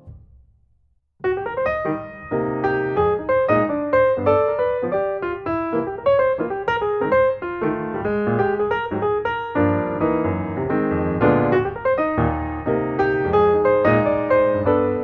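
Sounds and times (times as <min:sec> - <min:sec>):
piano music: 0:01.2 - 0:15.0.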